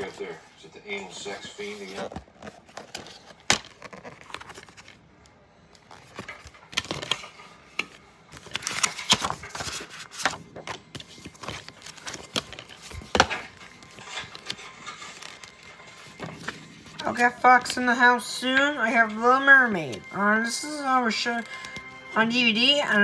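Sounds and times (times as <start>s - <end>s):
paper rustling: 0.0s - 23.0s.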